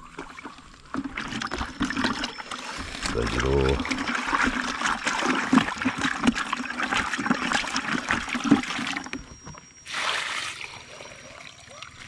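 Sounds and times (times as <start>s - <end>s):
water sloshing in bucket: 0.0s - 12.0s
water rushing out of bucket: 0.2s - 9.2s, 9.8s - 10.9s.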